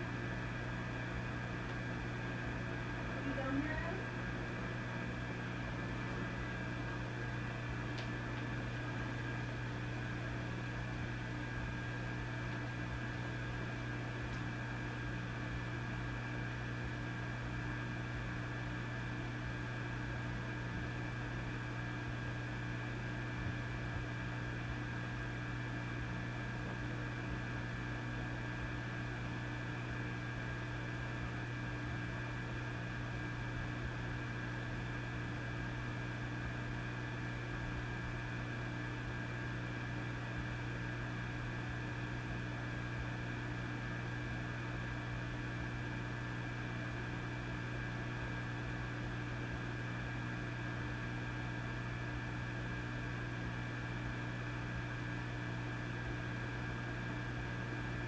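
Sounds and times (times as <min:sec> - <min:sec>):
amplifier mains hum: 0:00.0 - 0:58.0.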